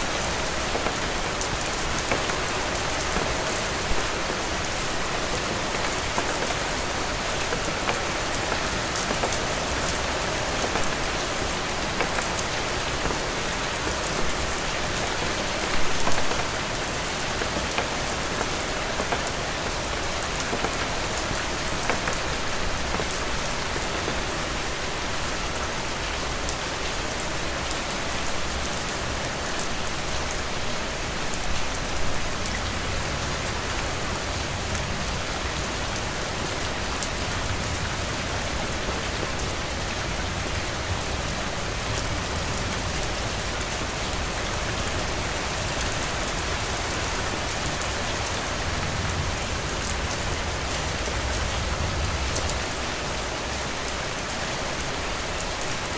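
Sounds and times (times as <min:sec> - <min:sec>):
heavy rain on a roof: 0:00.0 - 0:55.9.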